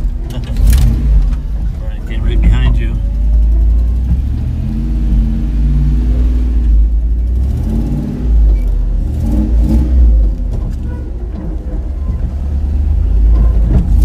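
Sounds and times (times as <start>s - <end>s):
engine running under load: 0.0s - 14.0s.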